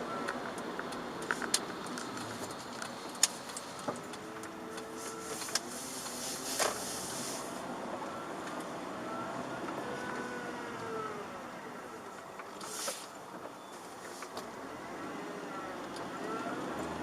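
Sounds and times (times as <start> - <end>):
car engine hum: 0.0 - 17.0
tyre and road noise: 0.0 - 17.0.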